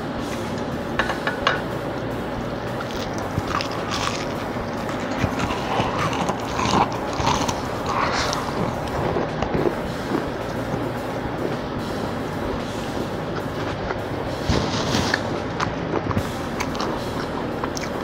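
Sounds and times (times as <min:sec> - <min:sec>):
steady background hum: 0:00.0 - 0:18.0
crunchy food chewing: 0:02.7 - 0:11.7, 0:12.5 - 0:18.0.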